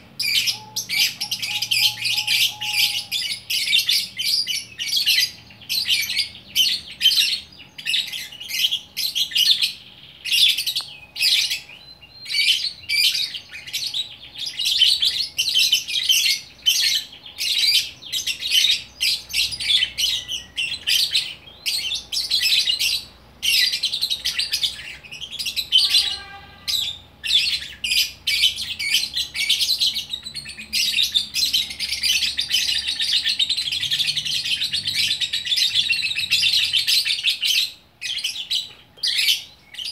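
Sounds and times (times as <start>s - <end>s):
lovebird chattering: 0.1s - 39.9s.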